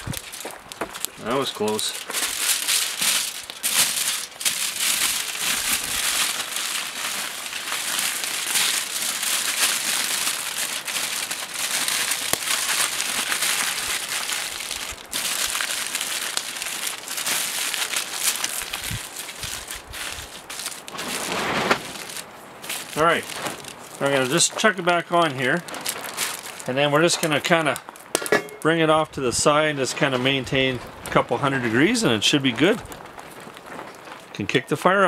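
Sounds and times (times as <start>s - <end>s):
aluminium foil crinkling: 0.0s - 28.8s, 29.4s - 34.4s.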